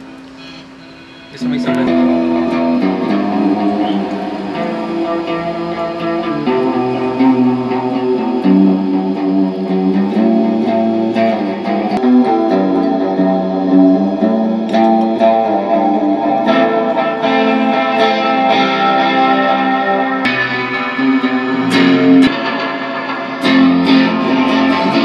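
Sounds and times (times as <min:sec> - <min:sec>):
electric guitar sustained chords: 0:00.0 - 0:25.0.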